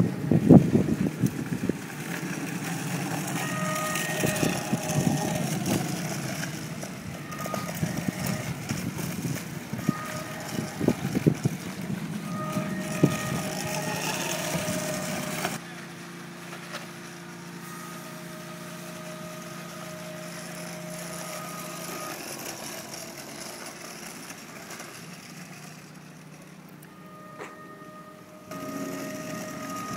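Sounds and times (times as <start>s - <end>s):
electric motor whine: 0.0s - 29.9s
small wheels rumbling on asphalt: 0.0s - 29.9s.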